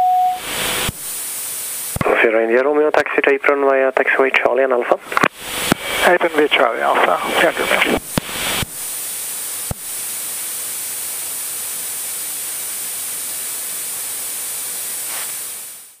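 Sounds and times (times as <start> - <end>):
steady cockpit hiss: 0.4 - 16.0.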